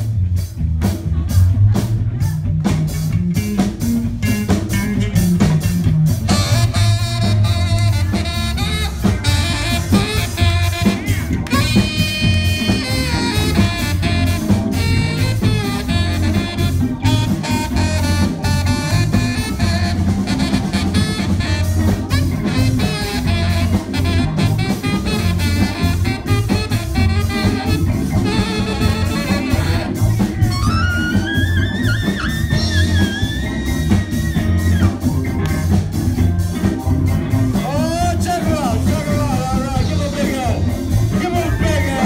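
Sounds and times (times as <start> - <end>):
drums: 0.0 - 42.0
horn band playing: 3.0 - 42.0.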